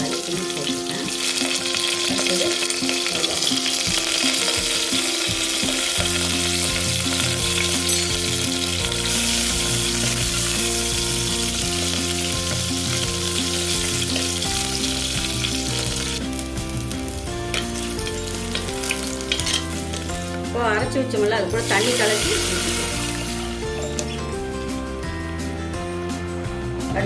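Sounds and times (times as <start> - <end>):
food sizzling in hot oil: 0.0 - 25.6.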